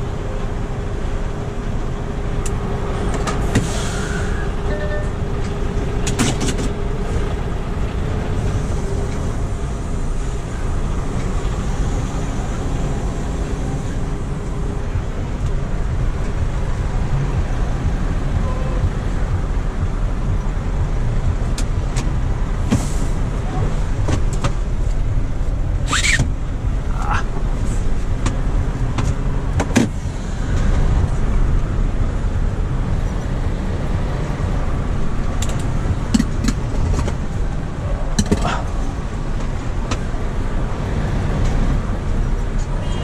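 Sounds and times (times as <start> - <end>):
diesel truck engine running: 0.0 - 42.8.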